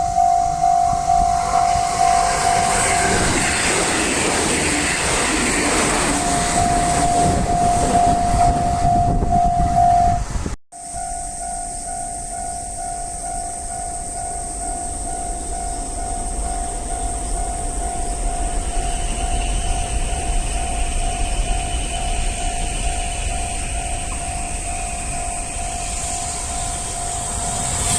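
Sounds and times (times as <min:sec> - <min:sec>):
level-crossing warning bell ringing: 0:00.0 - 0:27.9
low rail rumble: 0:00.0 - 0:27.9.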